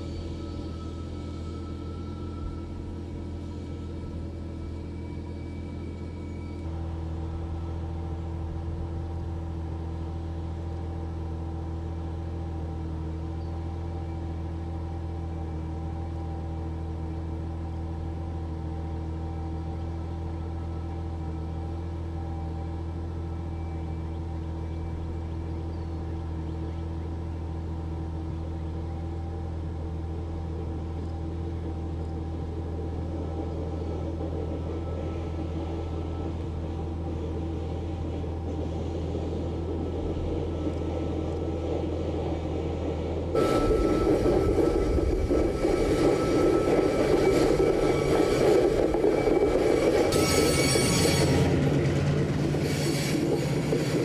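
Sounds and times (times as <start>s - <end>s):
locomotive engine drone: 0.0s - 54.0s
wheels rattling on rail: 0.0s - 54.0s.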